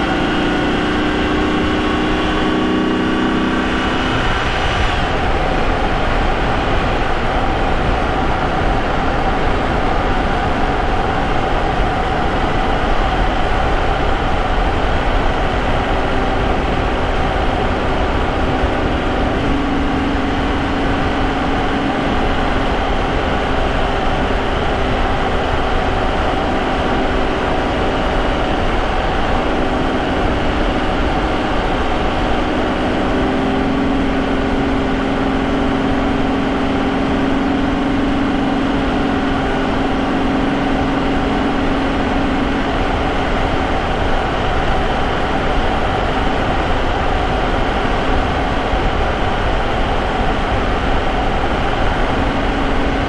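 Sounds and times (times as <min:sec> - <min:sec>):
car engine cruising drone: 0:00.0 - 0:53.0
road and tyre noise: 0:00.0 - 0:53.0.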